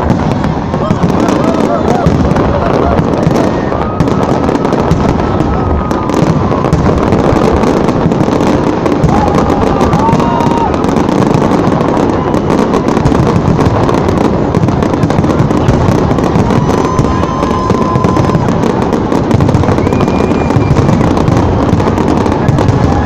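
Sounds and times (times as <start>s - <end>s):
firework whistles: 0.0s - 23.0s
fireworks shell bursts and crackling: 0.0s - 23.0s.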